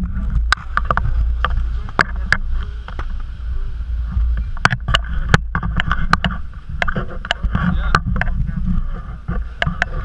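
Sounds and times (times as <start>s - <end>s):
sharp clicks and knocks: 0.0s - 3.3s, 4.1s - 10.0s
wind buffeting microphone: 0.0s - 10.0s.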